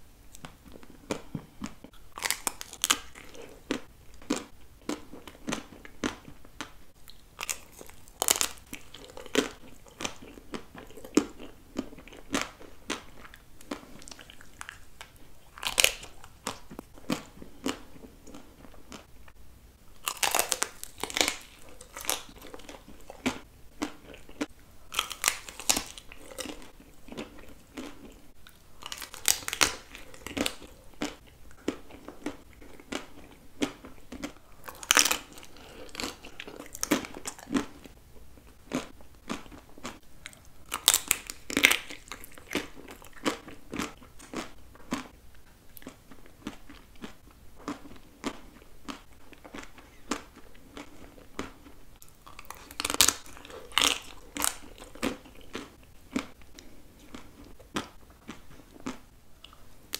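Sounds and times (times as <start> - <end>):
chewing: 0.3 - 19.1, 20.0 - 59.9.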